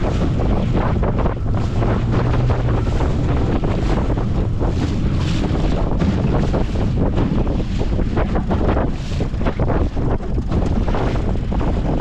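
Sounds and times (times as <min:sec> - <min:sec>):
boat motor droning: 0:00.0 - 0:12.0
choppy water: 0:00.0 - 0:12.0
wind buffeting microphone: 0:00.0 - 0:12.0.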